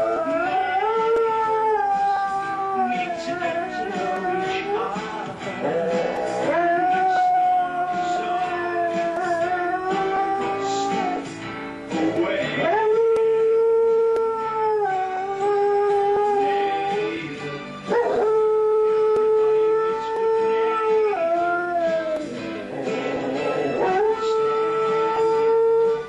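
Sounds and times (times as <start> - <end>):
dog howling: 0.0 - 11.3, 12.6 - 17.3, 17.9 - 26.0
tv theme music: 0.0 - 26.0.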